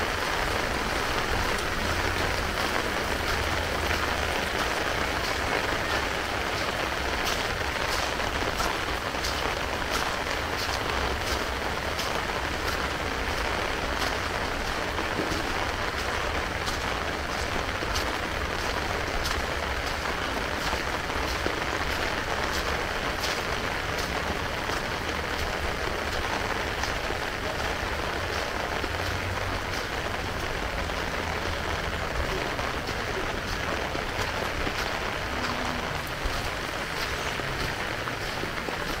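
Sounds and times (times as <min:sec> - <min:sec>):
heavy rain falling: 0:00.0 - 0:39.0
raindrop hits: 0:00.0 - 0:39.0.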